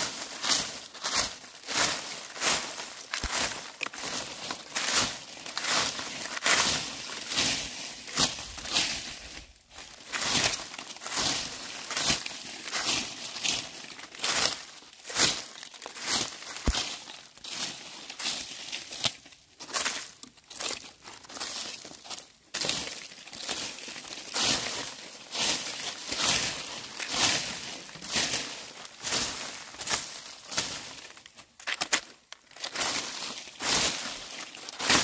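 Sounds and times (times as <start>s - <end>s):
broom sweeping dry leaves: 0.0s - 35.0s.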